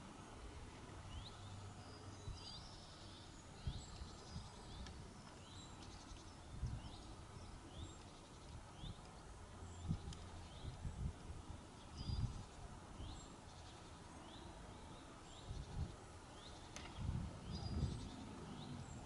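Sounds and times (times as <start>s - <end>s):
low outdoor rumble: 3.1s - 19.0s.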